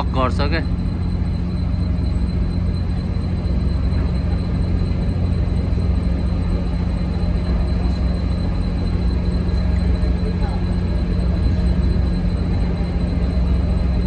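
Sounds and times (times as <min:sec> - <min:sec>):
faint high whine: 0:00.0 - 0:14.0
ferry engines droning: 0:00.0 - 0:14.0.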